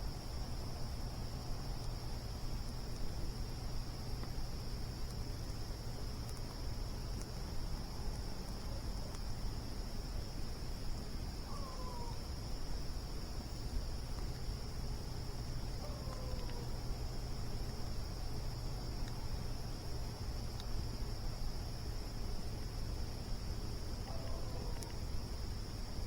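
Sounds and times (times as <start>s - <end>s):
crickets chirping: 0.0s - 26.0s
campfire crackling: 0.1s - 11.4s, 12.2s - 26.0s.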